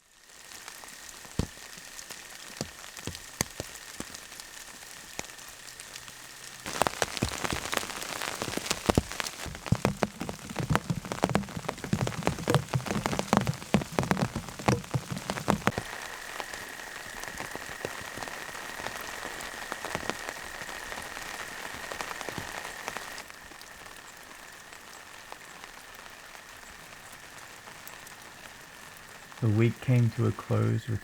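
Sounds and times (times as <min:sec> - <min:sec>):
big raindrops dripping: 0:00.0 - 0:31.0
rain pattering: 0:00.0 - 0:31.0.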